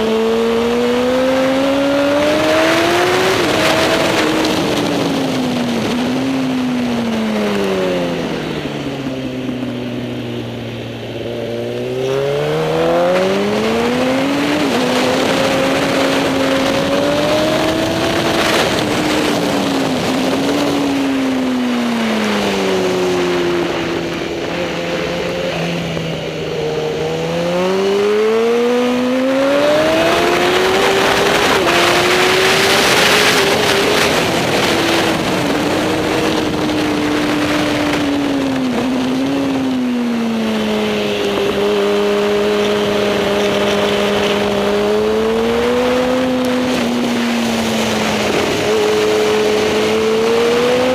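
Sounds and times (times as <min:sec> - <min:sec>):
superbike engine revving: 0:00.0 - 0:50.9.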